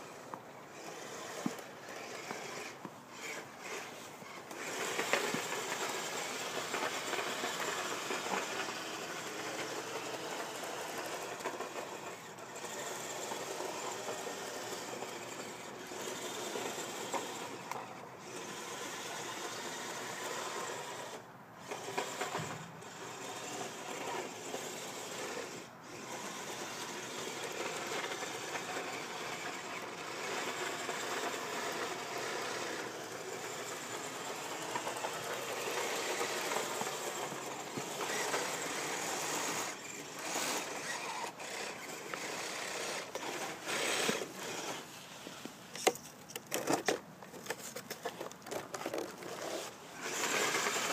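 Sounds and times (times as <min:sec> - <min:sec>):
toy snow groomers motors running: 0:00.0 - 0:50.9.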